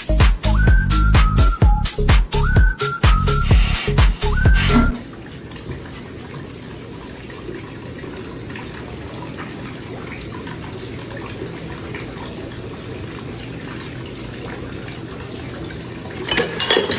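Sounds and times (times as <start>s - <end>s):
water trickling: 0.6s - 16.9s.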